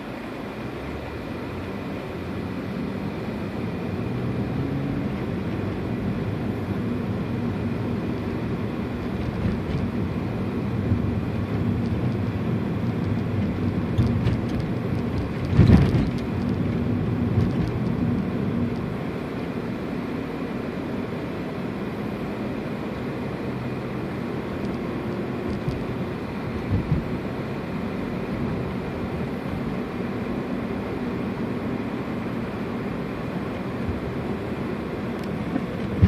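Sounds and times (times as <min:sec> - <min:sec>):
car engine running: 0:00.0 - 0:36.0
road noise: 0:00.0 - 0:36.0.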